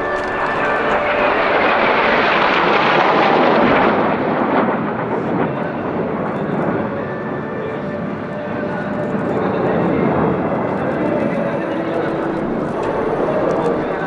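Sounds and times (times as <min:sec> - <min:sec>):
aircraft flying past: 0:00.0 - 0:14.0.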